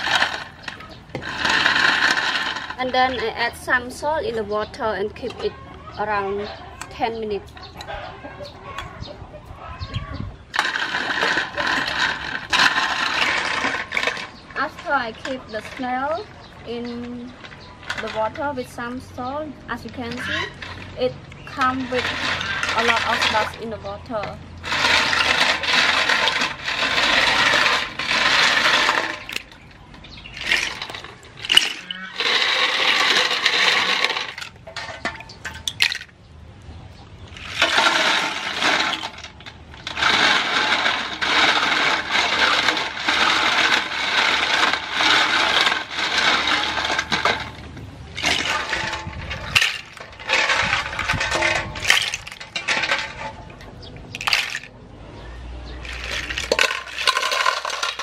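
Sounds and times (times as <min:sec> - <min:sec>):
shells clattering in metal bowl: 0:00.0 - 0:04.0, 0:10.5 - 0:36.2, 0:37.3 - 0:54.8, 0:55.6 - 0:58.0.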